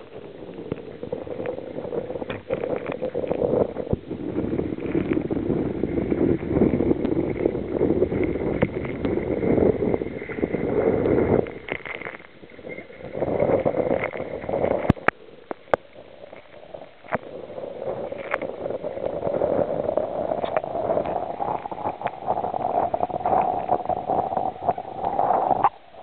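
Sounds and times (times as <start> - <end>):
sea water splashing around kayak: 0.0 - 26.0.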